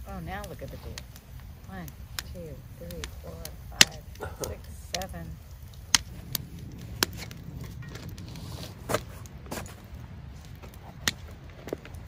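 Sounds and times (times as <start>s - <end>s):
campfire crackling: 0.0s - 12.0s
fire popping: 0.0s - 12.0s
low steady rumble: 0.0s - 12.0s.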